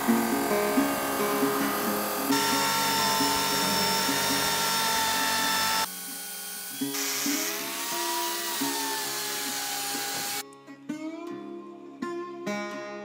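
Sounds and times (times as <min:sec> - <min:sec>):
background guitar music: 0:00.0 - 0:05.9, 0:06.7 - 0:13.0
electric polisher whining: 0:00.0 - 0:10.4.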